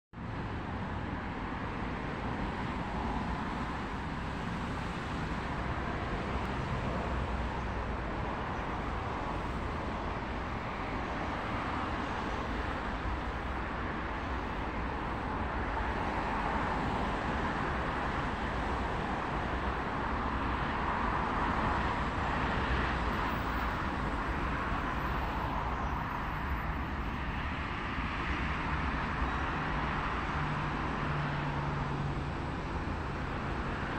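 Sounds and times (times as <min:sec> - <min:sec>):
road traffic noise: 0:00.2 - 0:33.9.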